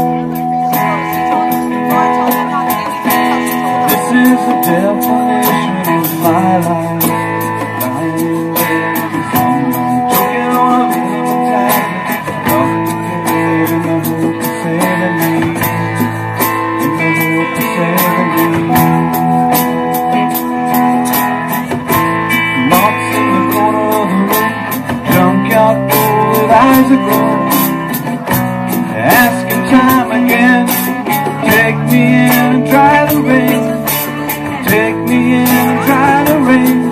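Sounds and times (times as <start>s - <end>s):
live band playing instrumental: 0.0s - 36.9s.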